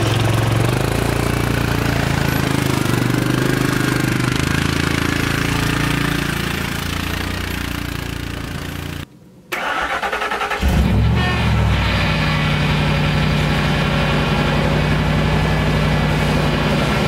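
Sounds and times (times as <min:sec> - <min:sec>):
vehicle engine running: 0:00.0 - 0:09.1, 0:10.7 - 0:17.0.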